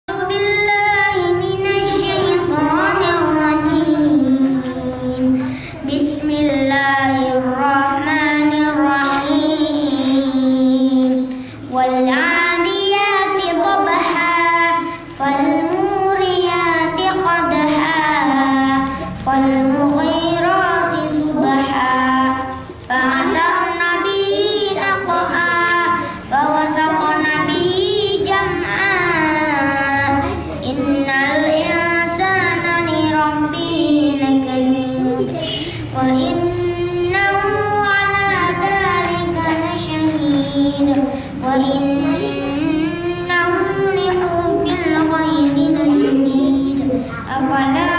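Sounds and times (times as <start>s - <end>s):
boy reciting melodically into microphone: 0.1s - 47.9s.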